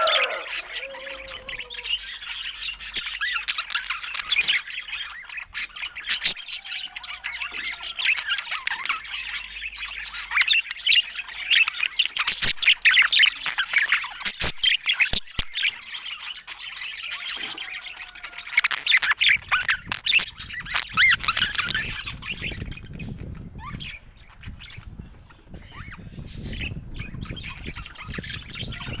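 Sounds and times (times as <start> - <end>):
budgerigars chattering and squawking: 0.0 - 29.0.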